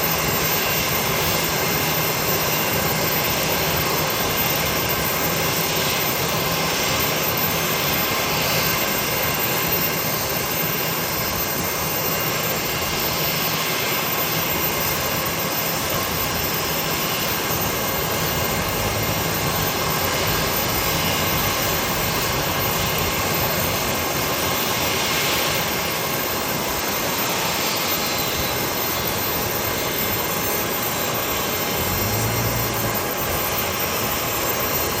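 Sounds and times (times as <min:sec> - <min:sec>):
jet engines running: 0:00.0 - 0:35.0.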